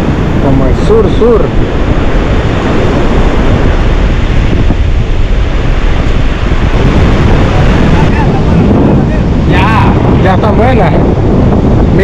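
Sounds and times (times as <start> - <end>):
surf washing: 0.0 - 12.0
wind buffeting the microphone: 0.0 - 12.0.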